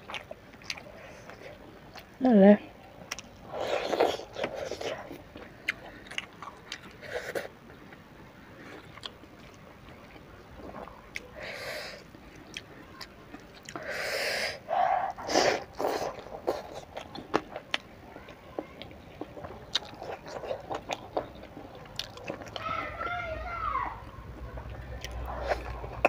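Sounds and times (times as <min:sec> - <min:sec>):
wet chewing and smacking: 0:00.0 - 0:02.2, 0:03.0 - 0:08.0, 0:08.6 - 0:11.3, 0:12.0 - 0:13.9, 0:14.7 - 0:22.8, 0:24.3 - 0:26.0.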